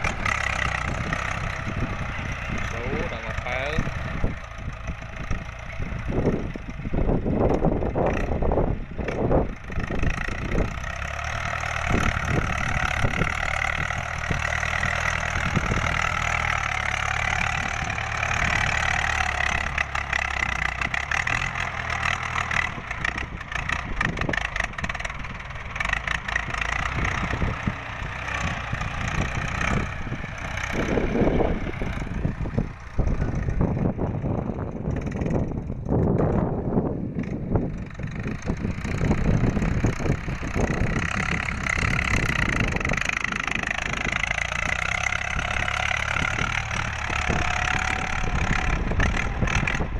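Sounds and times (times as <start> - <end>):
diesel tractor engine running: 0.0 - 49.9.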